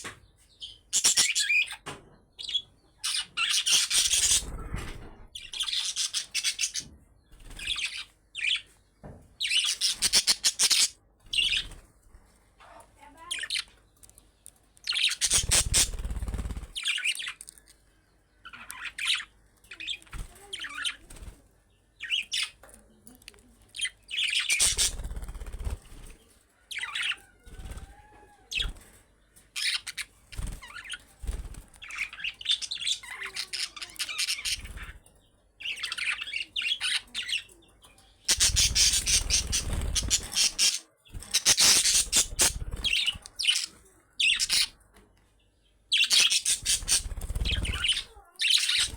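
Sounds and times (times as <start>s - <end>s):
budgerigars chirping and chattering: 0.0s - 8.8s, 9.4s - 11.8s, 14.9s - 17.4s, 18.4s - 21.3s, 22.0s - 22.7s, 23.7s - 25.8s, 26.7s - 44.8s, 45.9s - 48.9s.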